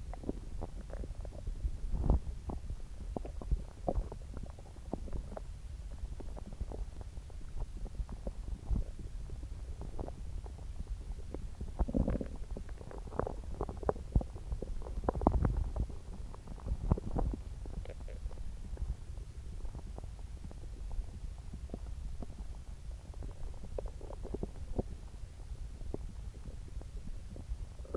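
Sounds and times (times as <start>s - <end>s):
stomach growling and gurgling: 0.0s - 27.9s.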